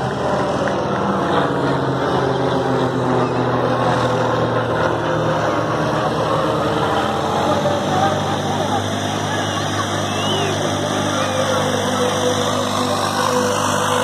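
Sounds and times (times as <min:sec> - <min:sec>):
propeller planes droning overhead: 0:00.0 - 0:14.0.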